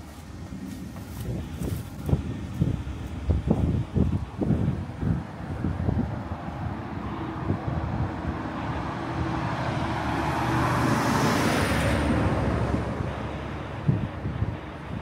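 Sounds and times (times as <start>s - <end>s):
motor vehicle passing: 0.0s - 14.5s.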